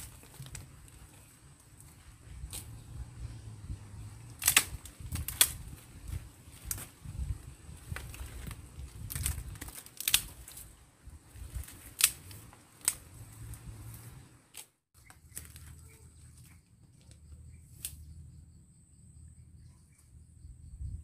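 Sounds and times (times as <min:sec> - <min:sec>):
low rustling handling noise: 0:00.0 - 0:18.0.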